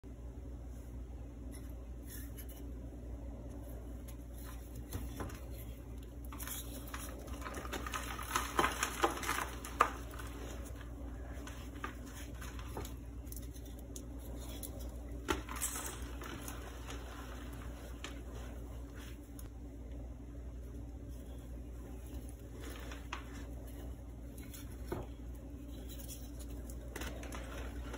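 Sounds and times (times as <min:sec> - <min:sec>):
faint low hum: 0:00.0 - 0:27.9.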